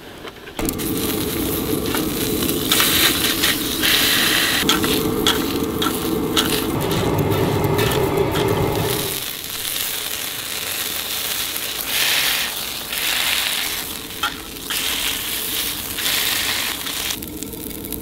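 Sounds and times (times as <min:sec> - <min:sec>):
squid sizzling on griddle: 0:00.6 - 0:18.0
spatula scraping griddle: 0:00.7 - 0:17.2.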